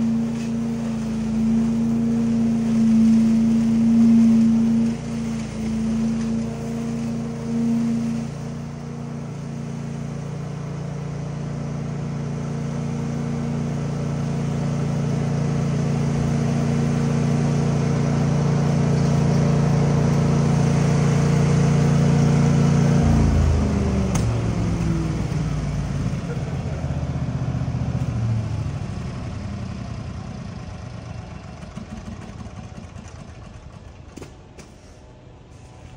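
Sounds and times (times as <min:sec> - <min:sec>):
leaf vacuum engine running: 0:00.0 - 0:35.9.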